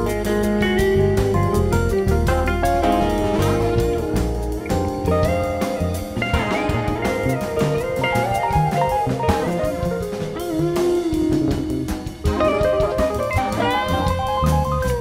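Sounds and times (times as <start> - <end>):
drum kit: 0.0 - 15.0
electric guitar lead lines: 0.0 - 15.0.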